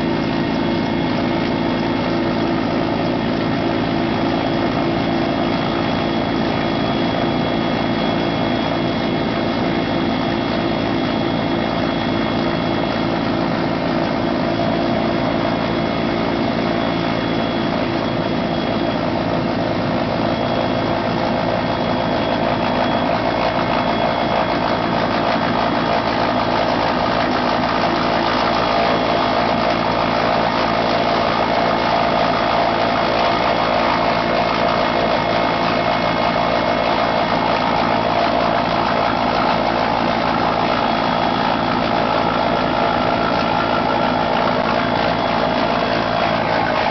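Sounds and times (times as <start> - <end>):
helicopter engine drone: 0.0 - 46.9.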